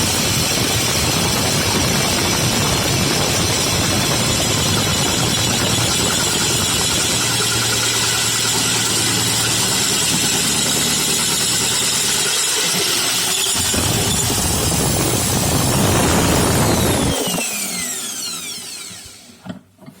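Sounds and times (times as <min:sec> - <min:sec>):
power tool motor humming: 0:00.0 - 0:19.4.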